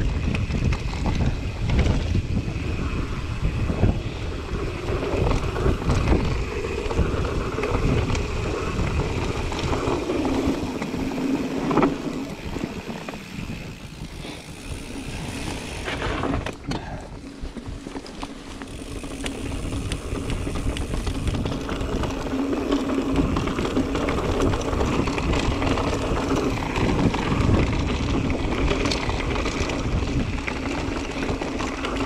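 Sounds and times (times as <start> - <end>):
bike rattling clicks: 0.0 - 32.0
bike tyre rumble: 0.0 - 32.0.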